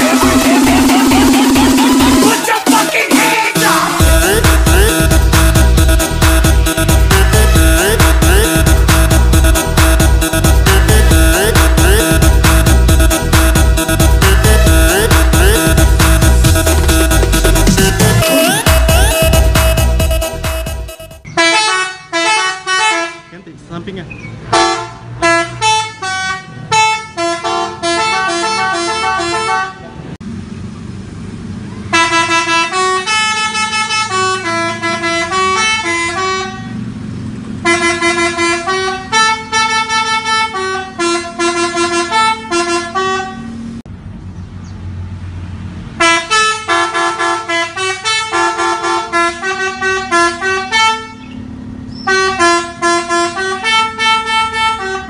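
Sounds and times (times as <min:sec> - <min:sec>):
musical truck horn melody: 0:00.0 - 0:23.6, 0:24.4 - 0:29.9, 0:31.9 - 0:36.9, 0:37.5 - 0:43.8, 0:46.0 - 0:55.0.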